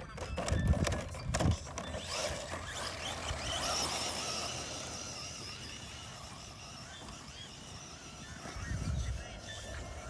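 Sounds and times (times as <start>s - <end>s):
rc car electric motor whining: 0.1s - 10.0s.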